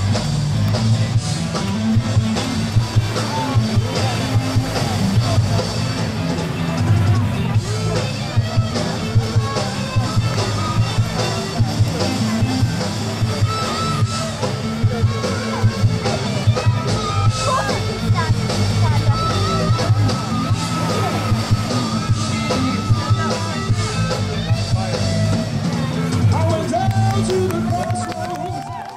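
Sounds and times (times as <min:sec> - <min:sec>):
rock music with singing: 0:00.0 - 0:28.7.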